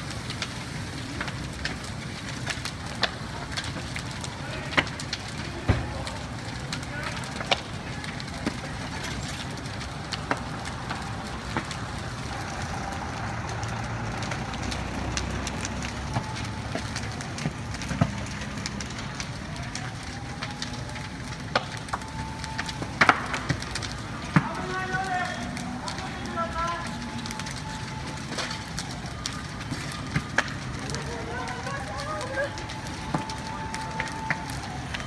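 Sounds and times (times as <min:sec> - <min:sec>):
fire crackling and popping: 0:00.0 - 0:35.0.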